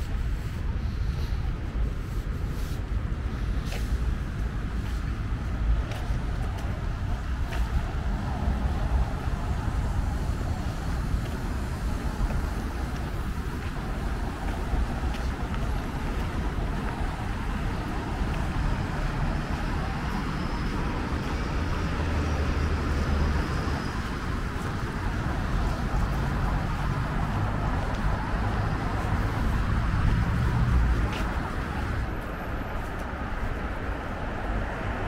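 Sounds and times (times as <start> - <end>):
passing cars rumbling: 0.0 - 35.0.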